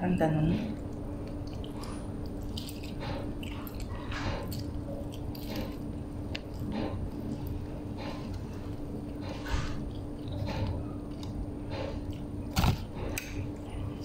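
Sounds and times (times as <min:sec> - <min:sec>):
faint steady hum: 0:00.0 - 0:14.0
person chewing: 0:00.8 - 0:14.0.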